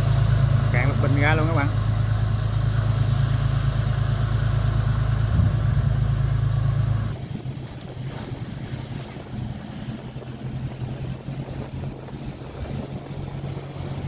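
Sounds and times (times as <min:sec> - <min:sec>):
boat engine humming: 0:00.0 - 0:14.0
wind and water wash: 0:00.0 - 0:14.0.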